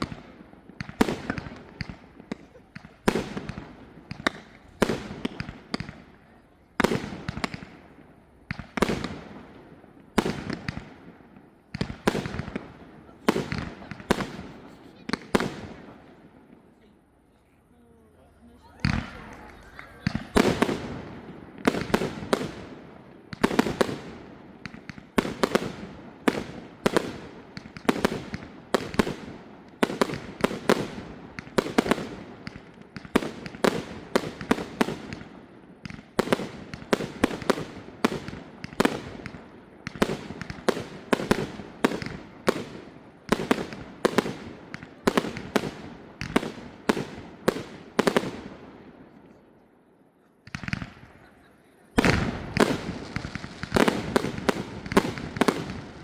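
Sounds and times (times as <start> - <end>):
fireworks bursting with echo: 0.0 - 49.6, 50.2 - 56.0.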